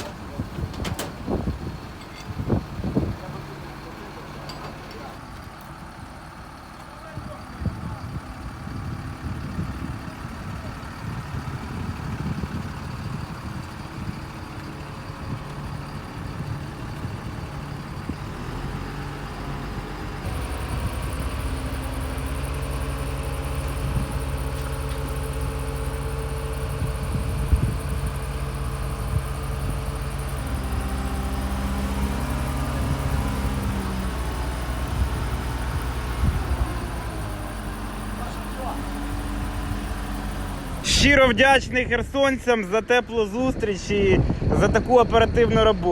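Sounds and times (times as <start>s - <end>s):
heavy truck engine running: 0.0s - 45.9s.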